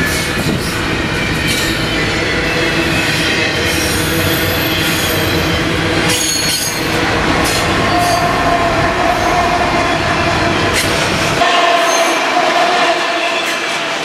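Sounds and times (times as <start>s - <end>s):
high wheel squeal: 0.0s - 14.0s
train wheels rumbling on rail: 0.0s - 14.0s
locomotive engine tone: 1.0s - 14.0s.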